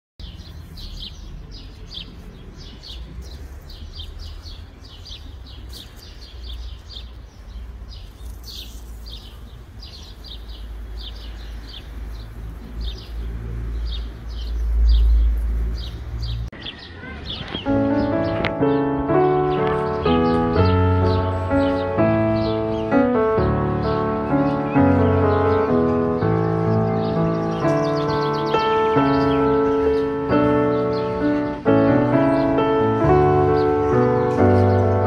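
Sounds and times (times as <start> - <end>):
bird chirping: 0.2 - 35.0.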